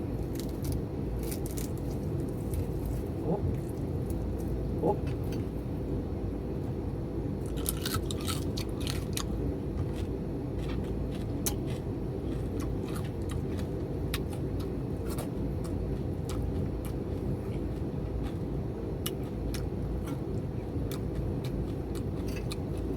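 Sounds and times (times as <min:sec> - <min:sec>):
chewing crispy fried food: 0:00.1 - 0:05.7, 0:07.4 - 0:22.9.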